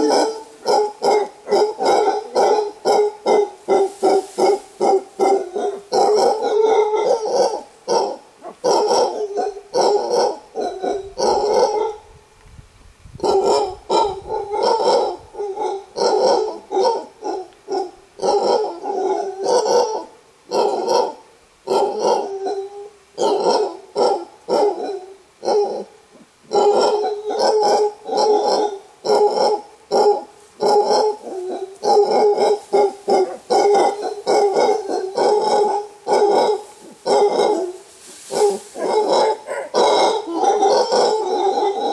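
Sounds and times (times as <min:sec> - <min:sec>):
howler monkey hoarse barking roars: 0:00.0 - 0:12.0, 0:13.2 - 0:41.9.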